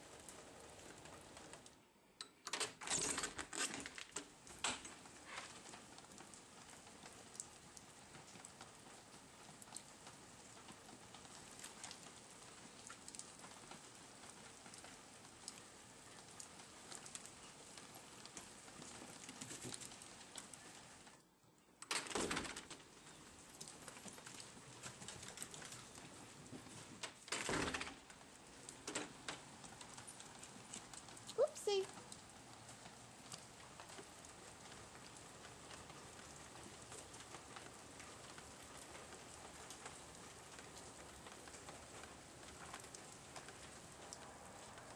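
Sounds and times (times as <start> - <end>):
rain pattering on stone: 0.0 - 44.9.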